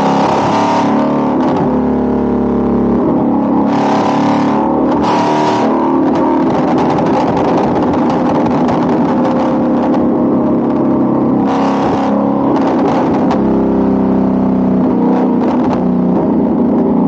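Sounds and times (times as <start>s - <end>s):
loud car engine revving: 0.0s - 17.0s.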